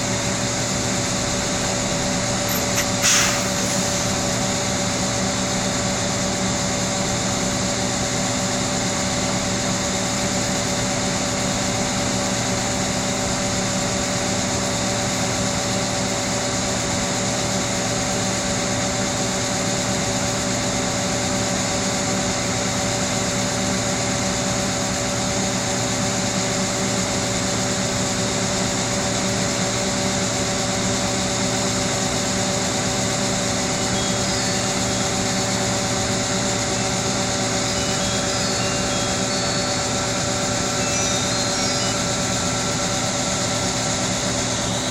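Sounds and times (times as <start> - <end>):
combine harvester drone: 0.0 - 44.9.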